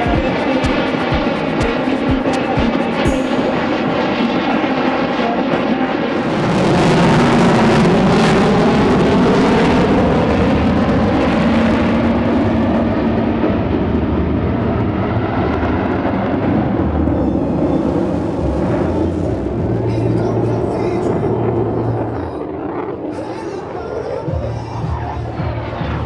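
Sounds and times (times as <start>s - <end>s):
jet engine roar: 0.0s - 24.3s.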